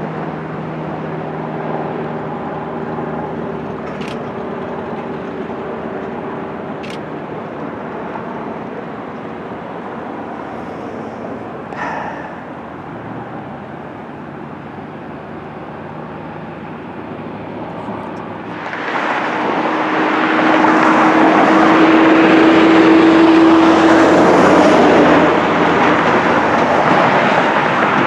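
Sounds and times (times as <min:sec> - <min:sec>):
jet engine noise: 0:00.0 - 0:28.0.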